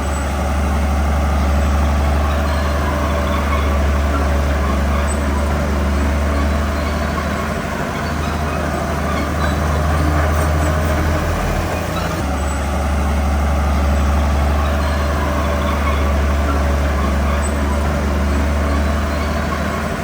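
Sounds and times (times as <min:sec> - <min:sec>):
bulldozer diesel engine drone: 0:00.0 - 0:20.0.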